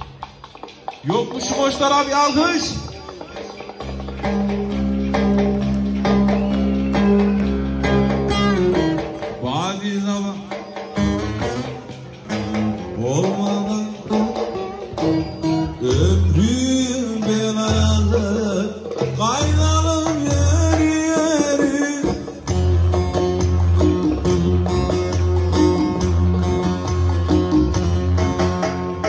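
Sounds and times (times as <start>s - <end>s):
live band playing folk dance music: 0.0s - 29.0s
plucked strings: 0.0s - 29.0s.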